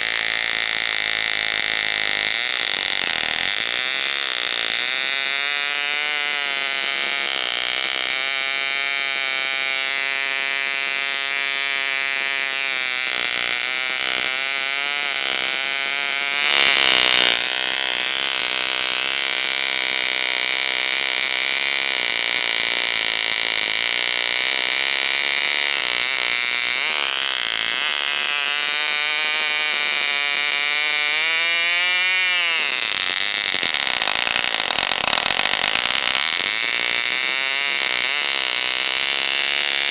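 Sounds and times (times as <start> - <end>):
model engine high-pitched buzz: 0.0 - 39.9.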